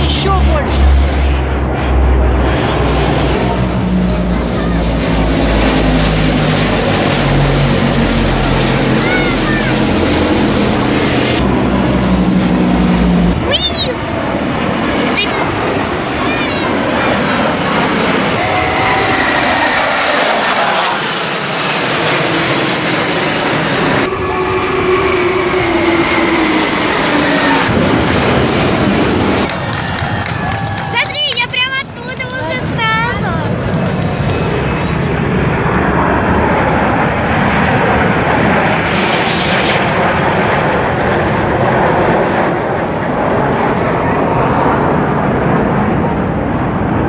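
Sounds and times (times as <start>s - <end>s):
aircraft engine roar: 0.0s - 47.0s.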